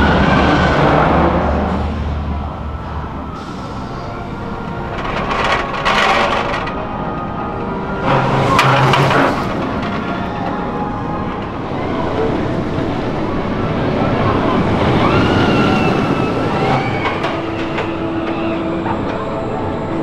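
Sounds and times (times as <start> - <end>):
roller coaster rushing on track: 0.0 - 20.0.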